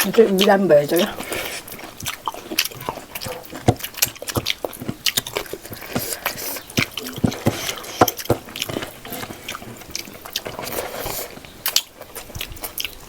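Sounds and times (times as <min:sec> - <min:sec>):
wet mouth clicks and lip smacks: 0:00.0 - 0:10.6
person chewing food: 0:00.0 - 0:13.0.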